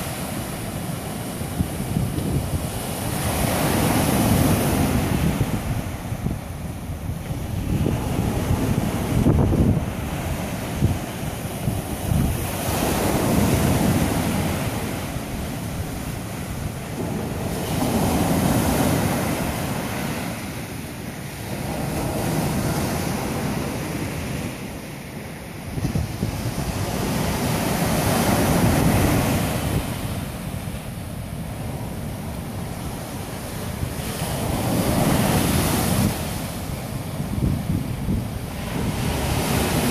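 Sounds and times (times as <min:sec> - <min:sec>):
surf breaking on sandy beach: 0:00.0 - 0:39.9.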